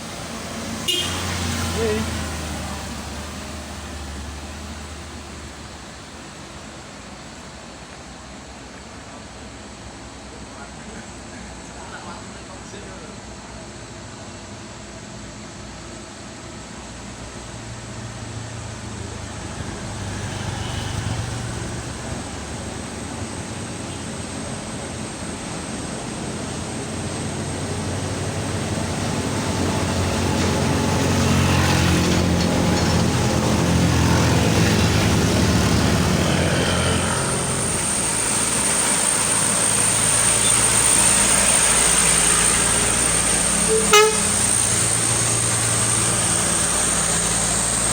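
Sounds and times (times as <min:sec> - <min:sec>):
vehicle engines pulling uphill: 0:00.0 - 0:47.9.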